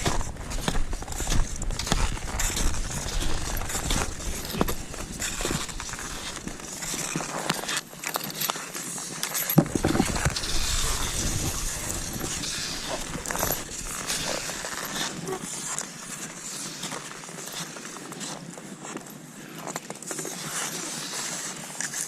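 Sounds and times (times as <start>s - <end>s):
ski poles scraping and tapping: 0.0s - 22.0s
skis swishing over snow: 0.0s - 22.0s.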